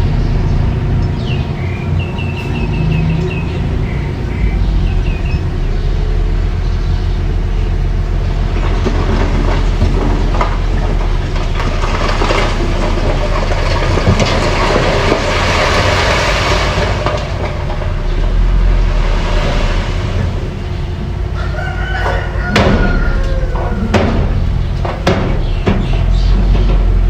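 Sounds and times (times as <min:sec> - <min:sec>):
diesel engine rumbling: 0:00.0 - 0:27.0
tracks clanking and rattling: 0:00.0 - 0:27.0.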